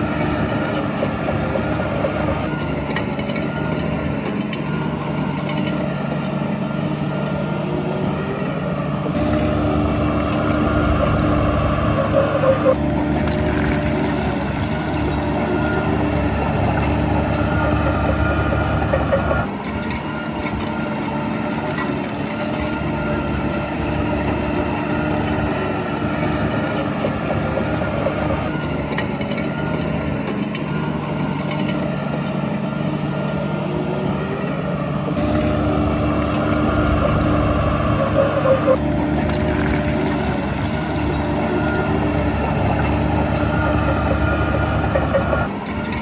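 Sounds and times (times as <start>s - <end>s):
heavy machinery diesel engine: 0.0s - 46.0s.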